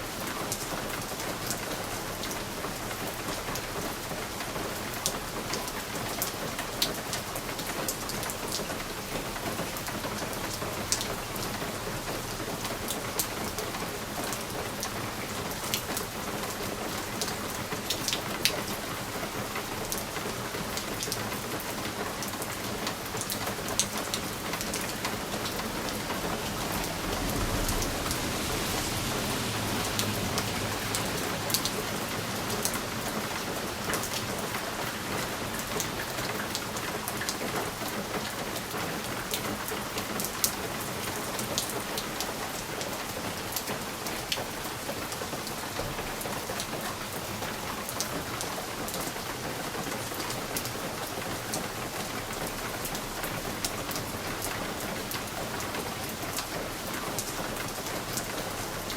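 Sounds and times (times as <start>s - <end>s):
rain drops on a window: 0.0s - 58.9s.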